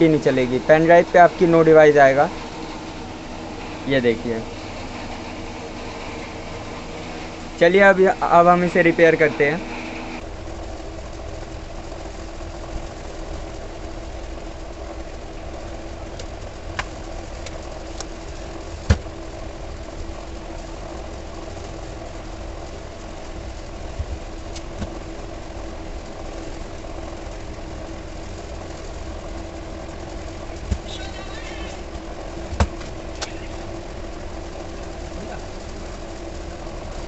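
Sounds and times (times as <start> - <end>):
machine hum with low rumble: 0.0 - 37.0.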